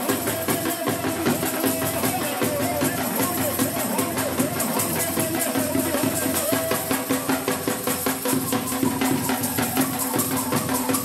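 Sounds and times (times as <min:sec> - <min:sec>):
drum beating: 0:00.0 - 0:11.0.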